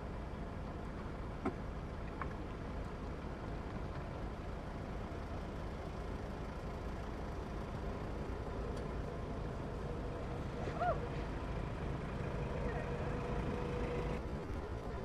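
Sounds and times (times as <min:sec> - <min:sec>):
steady low rumble with hiss: 0:00.0 - 0:15.0.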